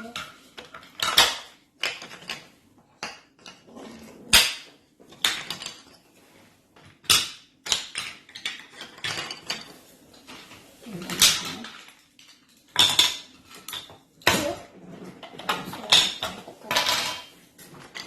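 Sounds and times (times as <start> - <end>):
wooden toy train pieces clacking: 0.0 - 6.0, 6.8 - 18.0.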